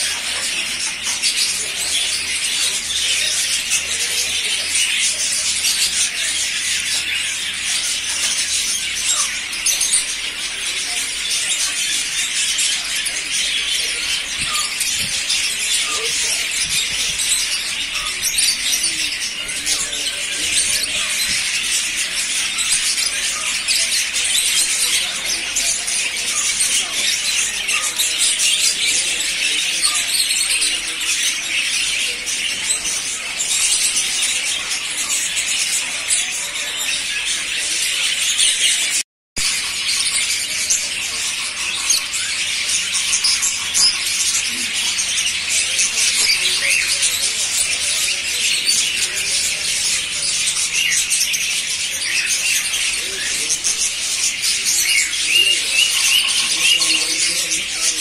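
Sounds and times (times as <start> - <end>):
small parrots chirping and chattering: 0.0 - 58.0.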